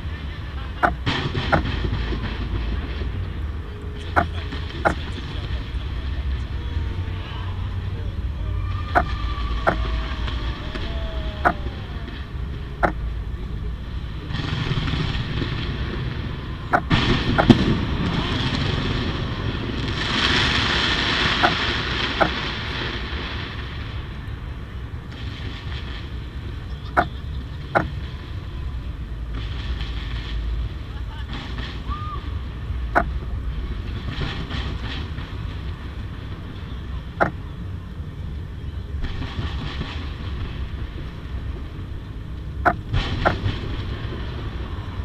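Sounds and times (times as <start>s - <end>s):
fireworks rumbling and crackling: 0.0s - 45.0s.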